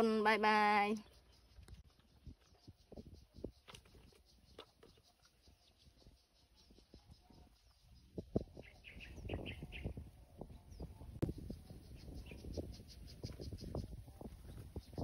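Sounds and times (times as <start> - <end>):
bird chirps: 1.0 - 15.0.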